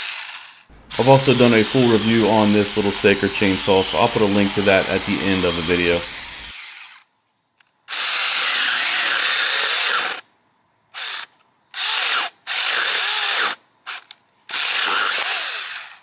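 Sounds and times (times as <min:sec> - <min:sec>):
mini chainsaw cutting branch: 0:00.0 - 0:07.0, 0:07.9 - 0:10.2, 0:11.0 - 0:16.0.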